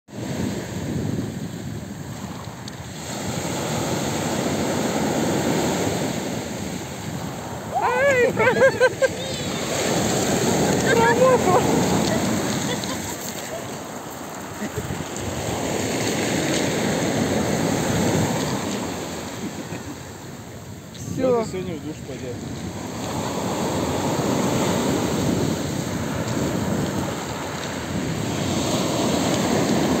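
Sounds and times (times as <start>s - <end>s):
surf breaking on pebble beach: 0.1s - 20.2s, 22.3s - 30.0s
wind buffeting microphone: 0.1s - 30.0s.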